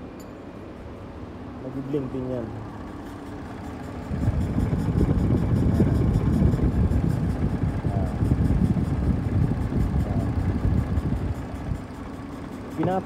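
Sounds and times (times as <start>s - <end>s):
misfiring car engine: 1.9s - 13.0s.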